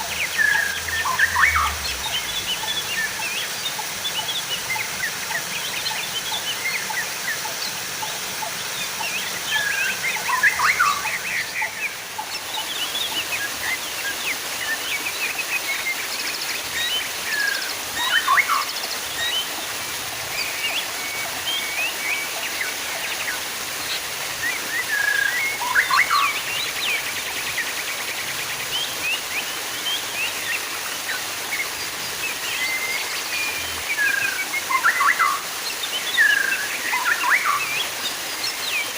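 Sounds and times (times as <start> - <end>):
running splashing water: 0.0 - 38.9
songbirds chirping and whistling: 0.0 - 38.9.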